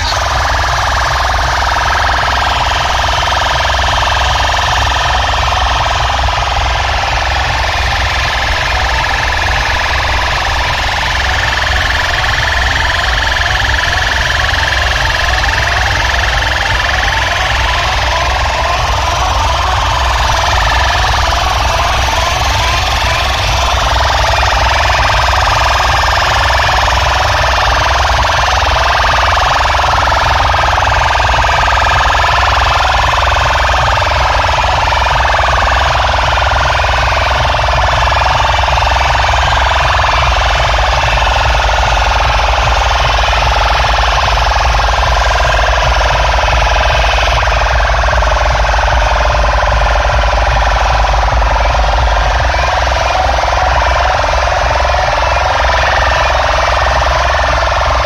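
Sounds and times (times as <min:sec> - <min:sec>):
distorted electronic siren tones: 0:00.0 - 0:58.0
fast throbbing bass: 0:00.0 - 0:58.0.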